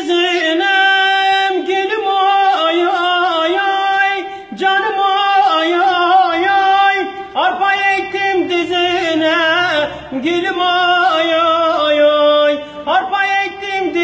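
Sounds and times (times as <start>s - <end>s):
man singing folk melody: 0.0s - 14.0s.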